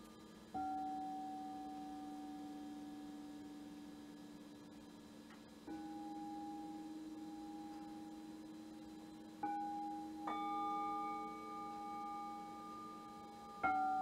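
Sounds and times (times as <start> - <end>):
singing bowls ringing: 0.0 - 4.5, 5.6 - 14.0.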